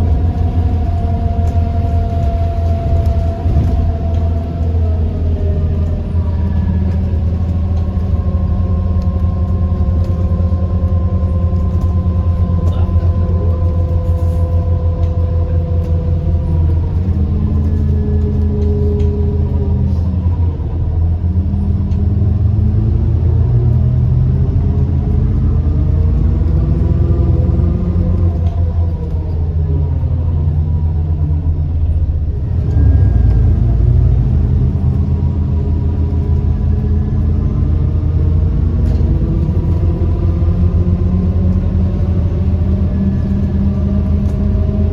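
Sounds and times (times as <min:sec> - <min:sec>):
axle and turbo whine: 0:00.0 - 0:44.9
bus engine rumble: 0:00.0 - 0:44.9.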